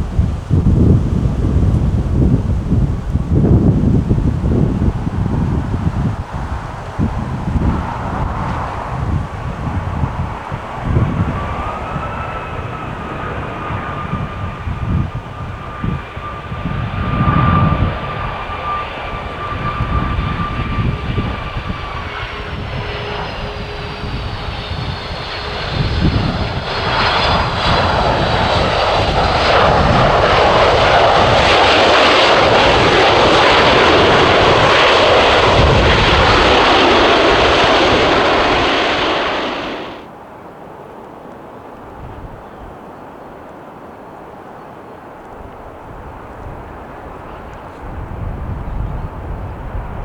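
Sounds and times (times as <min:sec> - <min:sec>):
jet engines whining: 0:00.0 - 0:40.1
loud jet roar: 0:00.0 - 0:40.1
wind gusting on microphone: 0:00.0 - 0:40.4, 0:41.7 - 0:43.4, 0:44.0 - 0:50.0.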